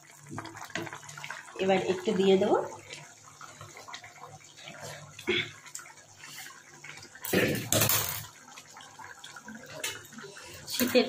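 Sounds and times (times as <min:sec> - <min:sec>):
curry bubbling in a pot: 0:00.0 - 0:11.0.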